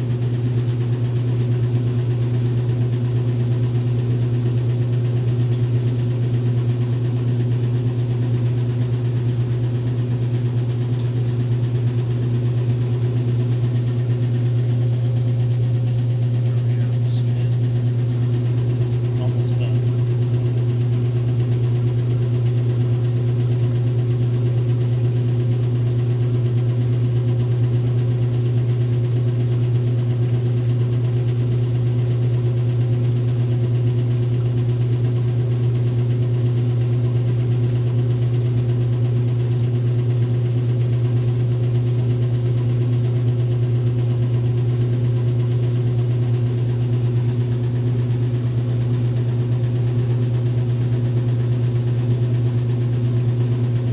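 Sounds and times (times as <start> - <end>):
washing machine motor hum: 0.0 - 53.9.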